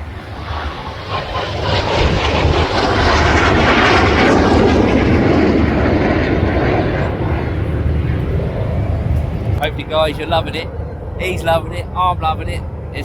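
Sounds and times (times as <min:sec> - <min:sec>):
plane flying low past: 0:00.0 - 0:13.0.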